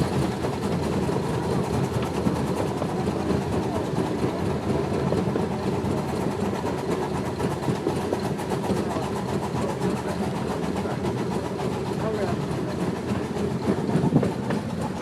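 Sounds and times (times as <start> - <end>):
steam train rumbling and rattling: 0.0 - 15.0.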